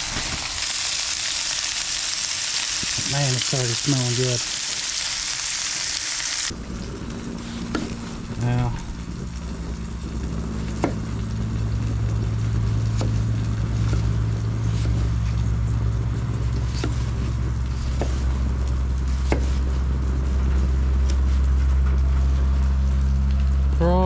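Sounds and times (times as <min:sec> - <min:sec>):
engine drone: 0:00.0 - 0:24.0.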